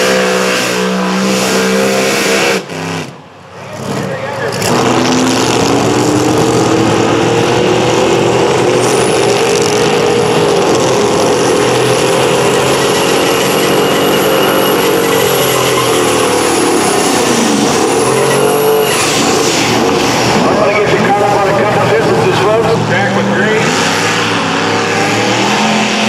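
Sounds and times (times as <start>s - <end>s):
vehicle engine running under load: 0.0s - 26.0s.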